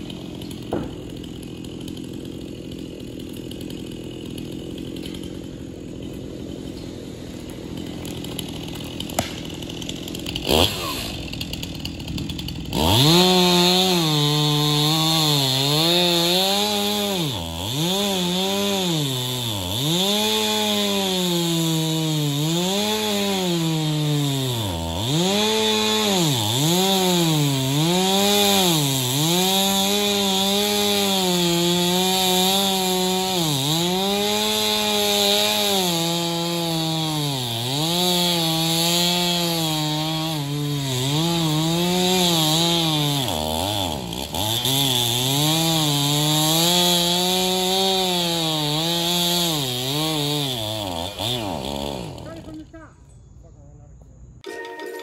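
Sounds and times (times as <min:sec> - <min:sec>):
chainsaw engine revving: 0:00.0 - 0:52.8.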